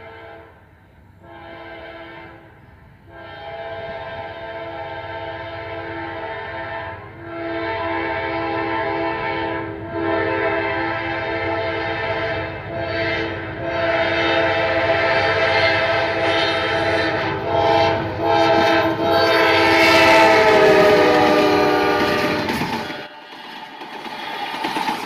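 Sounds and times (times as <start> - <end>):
locomotive air horn blasts: 0.0 - 0.6, 1.2 - 23.4.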